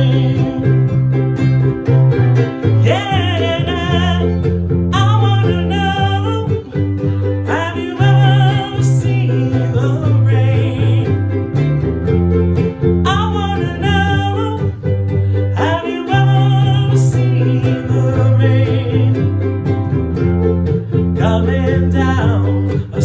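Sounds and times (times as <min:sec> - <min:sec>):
low bass line: 0:00.0 - 0:23.0
person singing: 0:00.0 - 0:23.0
ukulele strumming: 0:00.0 - 0:23.0.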